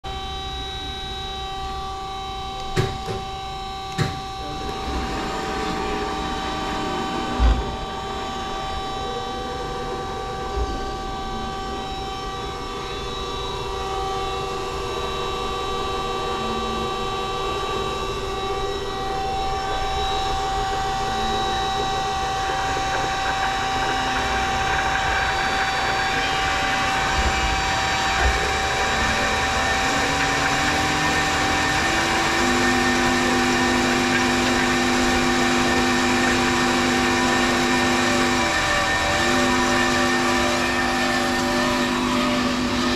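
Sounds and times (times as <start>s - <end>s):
band saw running: 1.4s - 42.9s.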